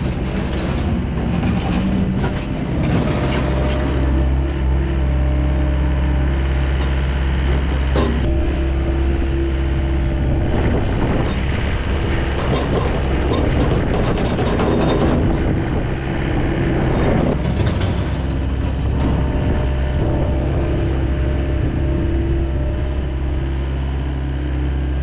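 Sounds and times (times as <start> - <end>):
diesel truck engine running: 0.0 - 25.0
loud rough noise: 0.0 - 25.0.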